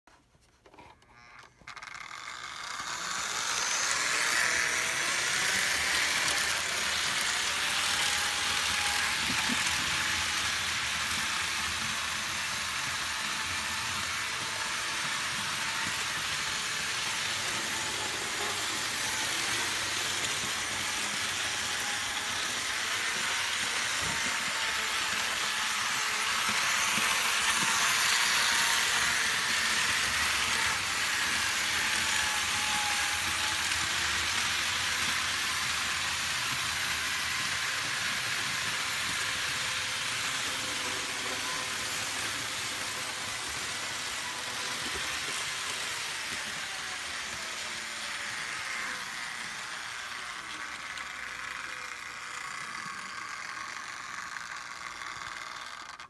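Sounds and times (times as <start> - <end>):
model train motor whirring: 0.6 - 56.0.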